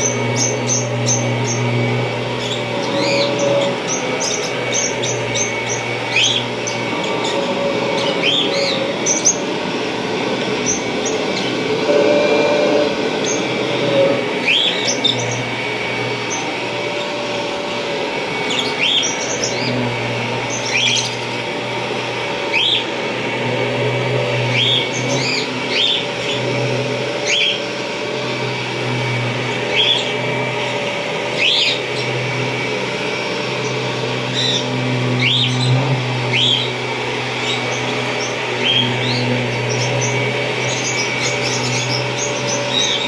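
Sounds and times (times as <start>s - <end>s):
vacuum cleaner running: 0.0s - 43.0s.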